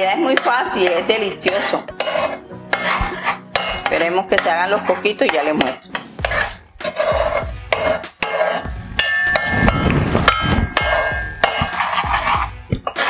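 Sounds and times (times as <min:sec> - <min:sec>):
metal spoon scraping a pot: 0:00.0 - 0:13.0.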